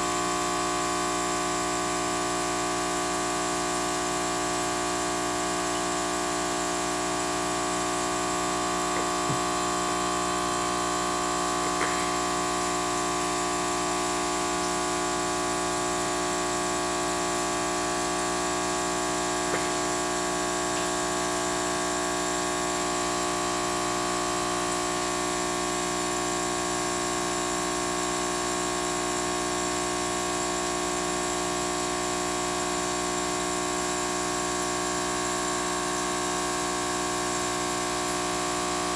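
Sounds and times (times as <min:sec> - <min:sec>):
aquarium pump humming: 0:00.0 - 0:38.9.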